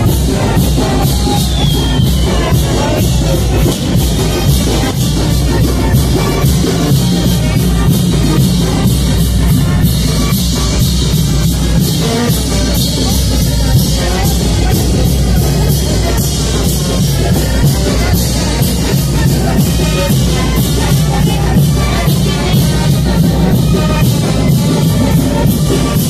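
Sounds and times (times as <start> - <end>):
drums and cymbals: 0.0 - 26.0
loud band music: 0.0 - 26.0.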